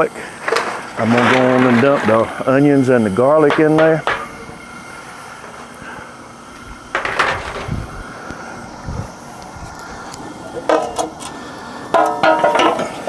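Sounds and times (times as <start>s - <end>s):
steady rushing of boiling water: 0.0s - 13.0s.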